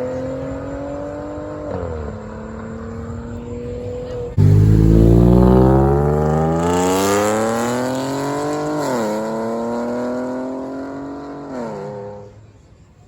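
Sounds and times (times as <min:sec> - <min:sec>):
car accelerating hard: 0:00.0 - 0:12.4.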